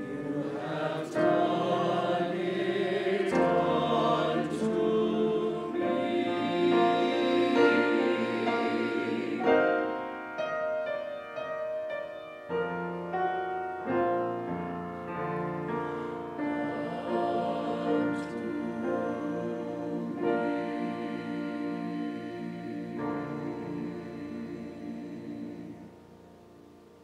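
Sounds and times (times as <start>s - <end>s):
church choir singing: 0.0s - 27.0s
piano accompaniment: 0.0s - 27.0s.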